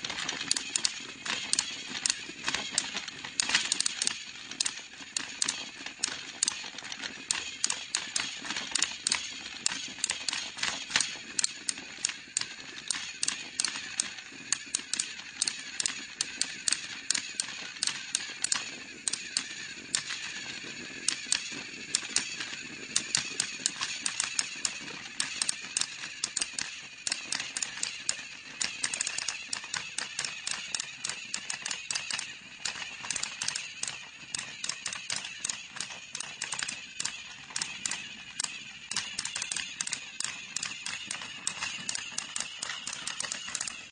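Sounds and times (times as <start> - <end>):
toy train motor whine: 0.0 - 43.9
wheels and gears clicking: 0.0 - 43.9.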